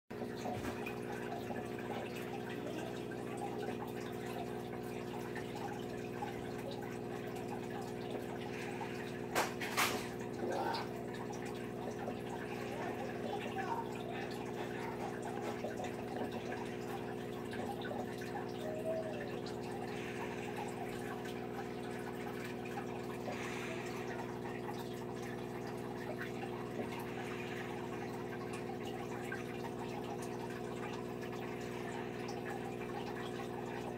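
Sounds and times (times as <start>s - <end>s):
water trickling and dripping: 0.1s - 33.9s
steady hum: 1.1s - 33.9s.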